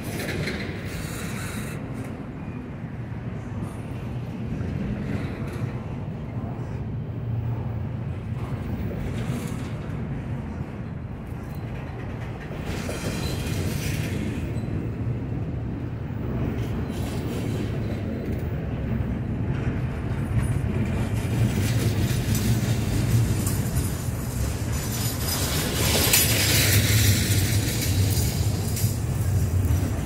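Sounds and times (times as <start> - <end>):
train clicks: 0.0 - 2.2, 4.2 - 6.1, 8.3 - 30.0
freight train rumbling past: 0.0 - 30.0.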